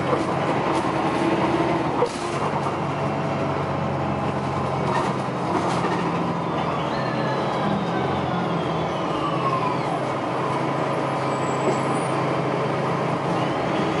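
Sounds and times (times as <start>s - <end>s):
bus engine hum: 0.0s - 14.0s
road rumble: 0.0s - 14.0s.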